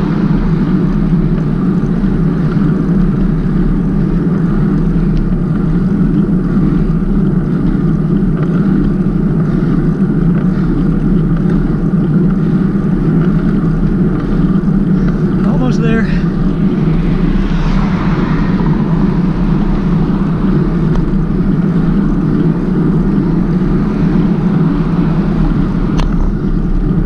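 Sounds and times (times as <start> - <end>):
low road rumble: 0.0 - 27.0
wind buffeting microphone: 0.0 - 27.0.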